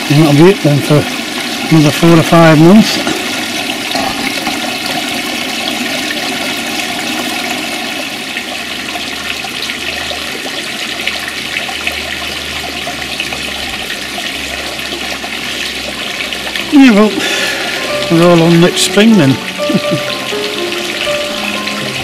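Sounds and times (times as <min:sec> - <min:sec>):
water splashing into pond: 0:00.0 - 0:22.0.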